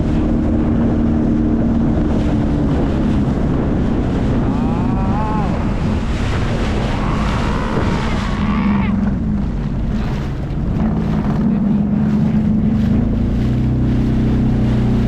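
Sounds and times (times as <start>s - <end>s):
jet ski engine running: 0.0s - 15.0s
rushing water: 0.0s - 15.0s
wind on microphone: 0.0s - 15.0s.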